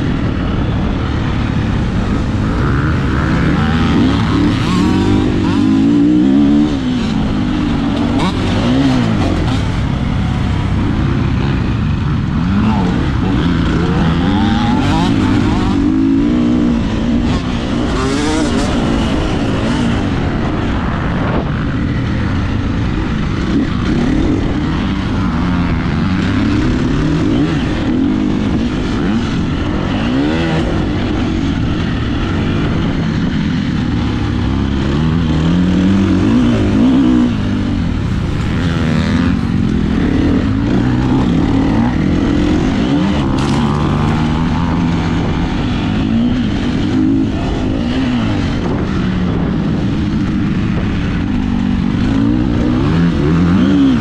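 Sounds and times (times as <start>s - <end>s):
motocross bike engine revving: 0.0s - 54.0s
other dirt bikes running: 0.0s - 54.0s.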